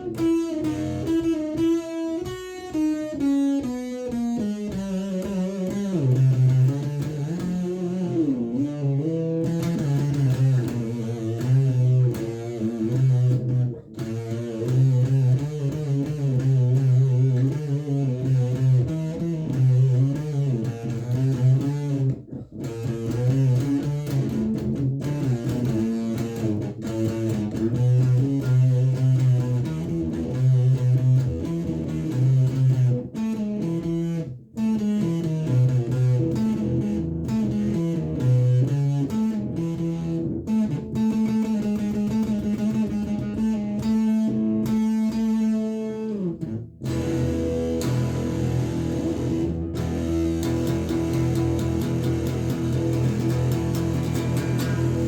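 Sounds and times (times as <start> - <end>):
electric guitar fuzz solo: 0.0 - 55.0
repeating low guitar riff: 0.0 - 55.0.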